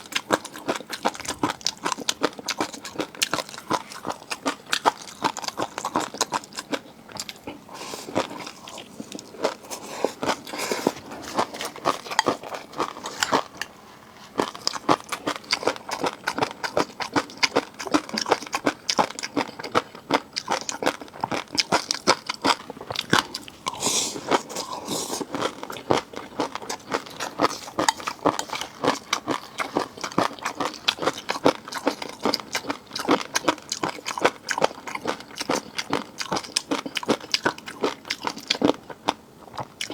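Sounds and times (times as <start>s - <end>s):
crunching and wet chewing: 0.0s - 39.9s.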